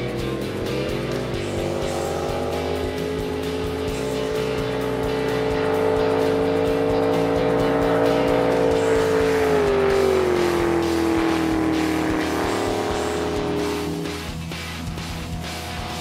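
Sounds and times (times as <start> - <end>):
background music with steady beat: 0.0 - 16.0
jet boat engine at full speed: 0.0 - 16.0.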